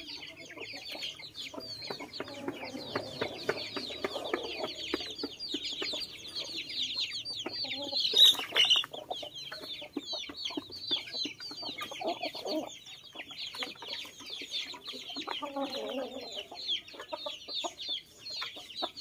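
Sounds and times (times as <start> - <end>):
chicks peeping: 0.0 - 19.0
hens clucking: 0.0 - 19.0.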